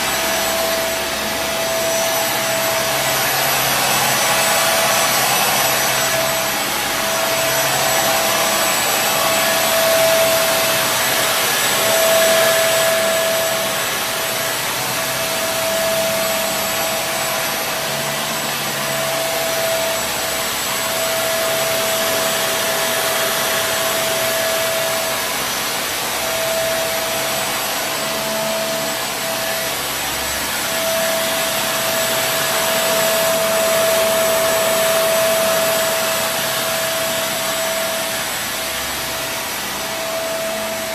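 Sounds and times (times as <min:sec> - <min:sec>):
vacuum air rush: 0:00.0 - 0:40.9
vacuum cleaner motor whine: 0:00.0 - 0:40.9.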